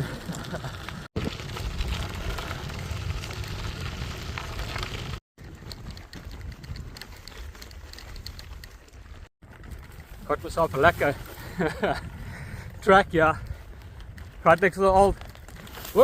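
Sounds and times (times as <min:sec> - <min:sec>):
bicycle rattling over dirt trail: 0:00.0 - 0:16.0.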